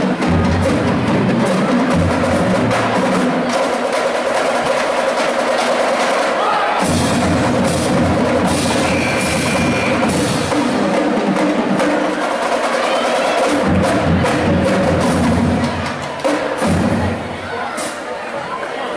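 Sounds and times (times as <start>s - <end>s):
drum ensemble playing: 0.0s - 18.1s.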